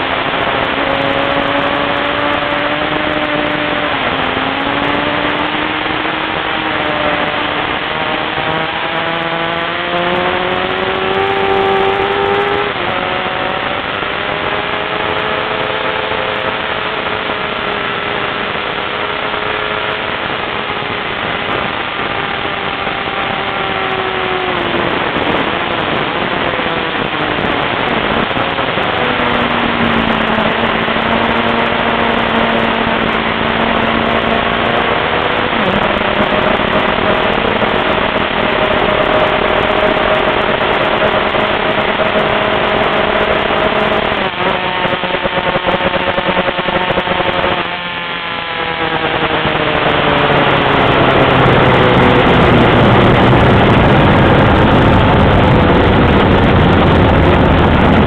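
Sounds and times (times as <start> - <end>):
motorcycle engine at speed: 0.0 - 58.0
wind rush over microphone: 0.0 - 58.0.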